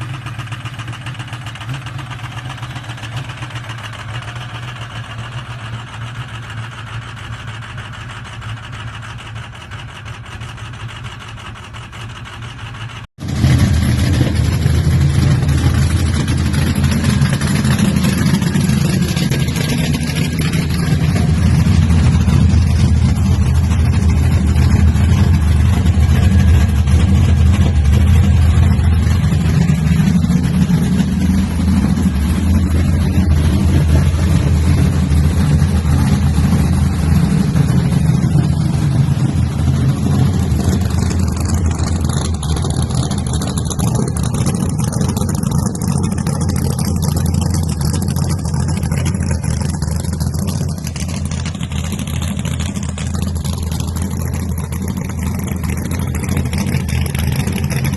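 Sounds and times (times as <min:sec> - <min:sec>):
truck engine rumbling: 0:00.0 - 0:57.9.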